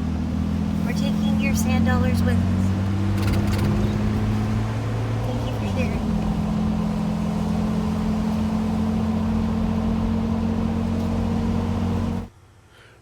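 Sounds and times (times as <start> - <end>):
low engine drone: 0.0 - 12.3
road and tyre noise: 0.0 - 12.4.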